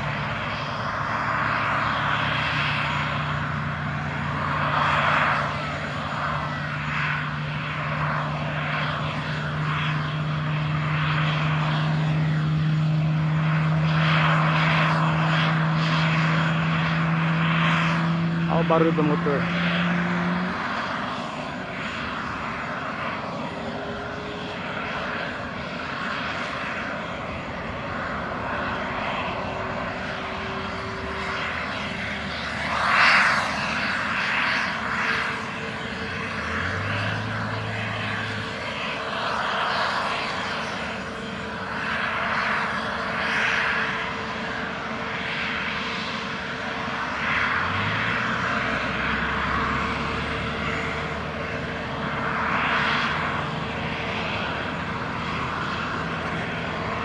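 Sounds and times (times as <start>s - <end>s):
jet engines idling: 0.0s - 57.0s.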